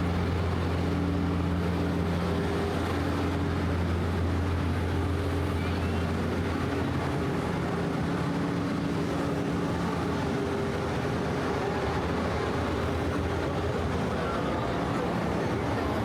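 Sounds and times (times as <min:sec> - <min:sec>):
low engine hum: 0:00.0 - 0:16.0
rumble of street traffic: 0:00.0 - 0:16.0.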